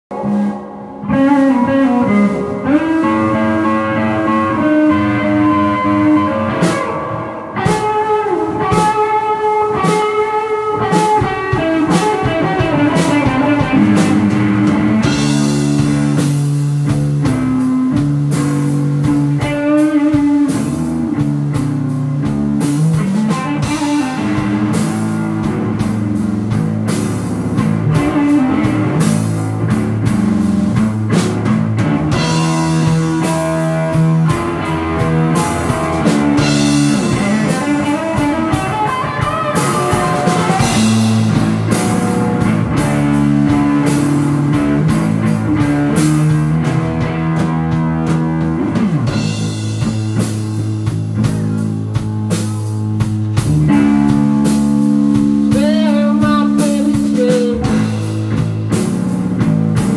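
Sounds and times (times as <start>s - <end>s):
guitar rock music with drums: 0.1s - 59.9s.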